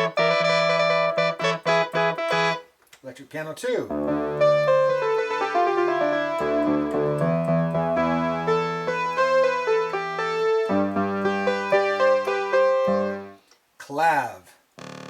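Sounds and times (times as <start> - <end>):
synthesizer electric piano chords: 0.0 - 2.6, 3.9 - 13.4.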